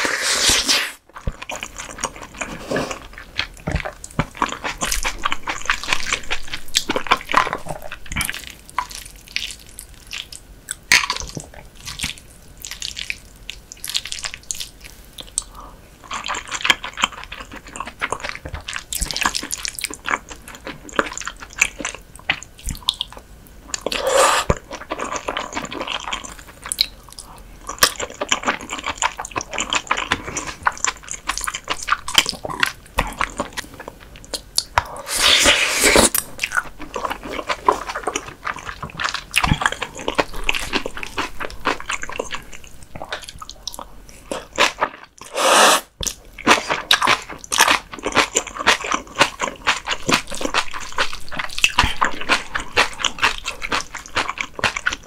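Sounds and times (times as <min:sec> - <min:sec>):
wet chewing and mouth sounds: 0:00.0 - 0:55.0.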